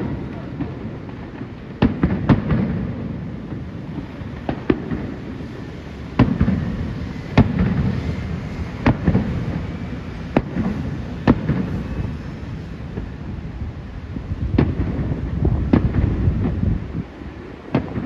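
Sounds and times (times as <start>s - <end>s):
firework bangs with rumbling echo: 0.0s - 18.0s.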